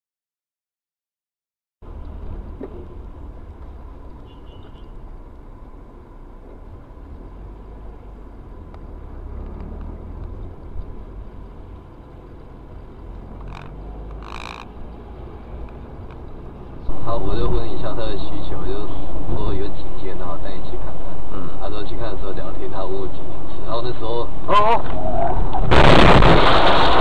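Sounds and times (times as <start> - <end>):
car road and engine rumble: 1.8 - 27.0.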